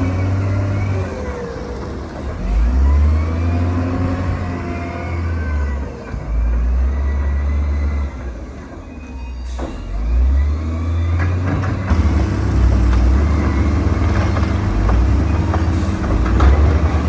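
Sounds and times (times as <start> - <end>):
diesel engine rumbling under load: 0.0 - 17.0.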